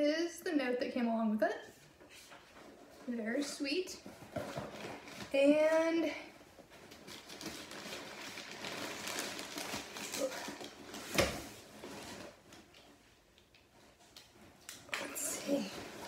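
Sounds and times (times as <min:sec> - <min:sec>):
packaging and fabric rustling: 0:01.9 - 0:16.0.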